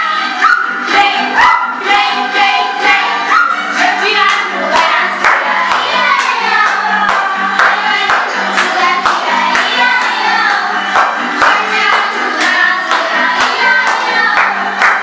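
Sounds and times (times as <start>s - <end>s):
song with voices over a beat: 0.0s - 15.0s.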